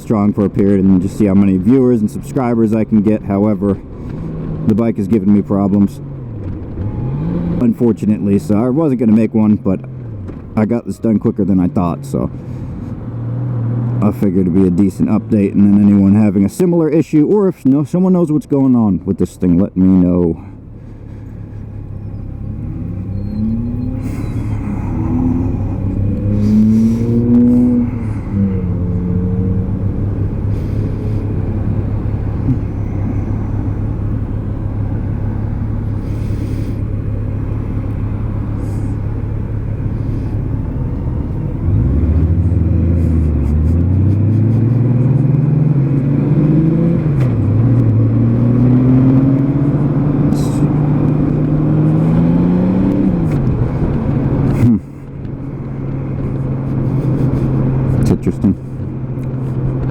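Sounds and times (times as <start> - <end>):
motorcycle engine: 0.0 - 16.7, 20.1 - 59.9
wind and road noise: 0.0 - 59.9.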